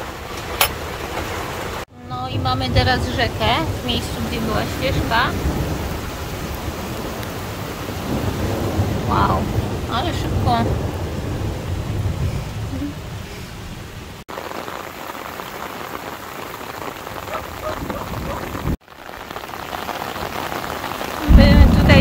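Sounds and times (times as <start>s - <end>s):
heavy rain rushing: 0.0s - 22.0s.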